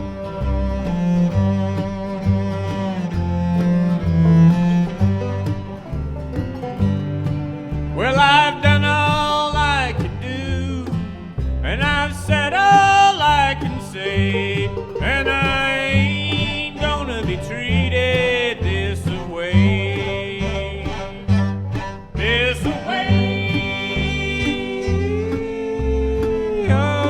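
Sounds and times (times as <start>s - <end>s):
banjo: 0.0s - 27.0s
bowed fiddle melody: 0.0s - 27.0s
guitar: 0.0s - 27.0s
upright bass: 0.0s - 27.0s.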